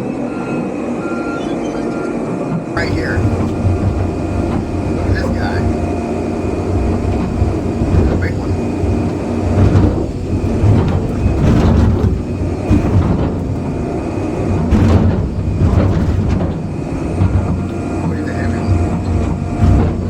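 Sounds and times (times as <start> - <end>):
excavator diesel engine rumble: 2.8 - 20.0
high engine whine: 2.8 - 20.0.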